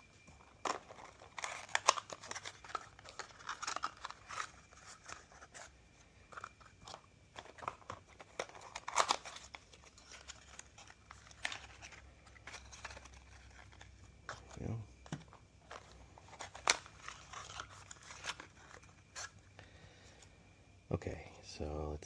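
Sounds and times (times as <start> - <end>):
packaging rustling and tearing: 0.4 - 19.5.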